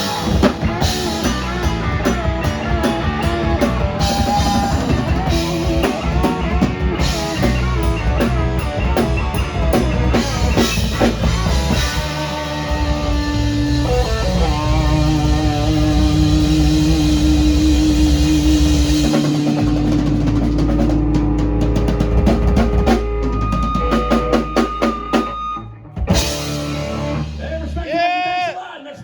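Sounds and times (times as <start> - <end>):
rock band playing: 0.0 - 28.1.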